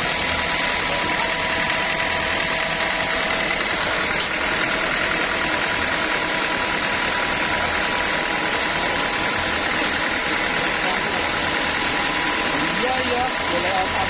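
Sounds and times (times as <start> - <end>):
constant whine: 0.0 - 14.0
sawmill machinery running: 0.0 - 14.0.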